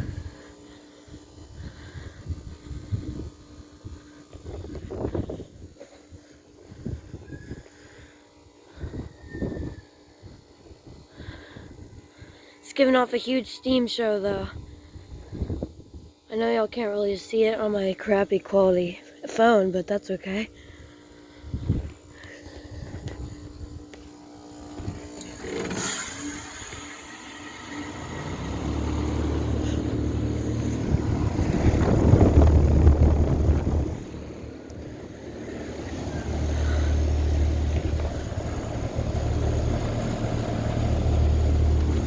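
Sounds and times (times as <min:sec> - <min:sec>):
heat pump humming: 0:00.0 - 0:42.0.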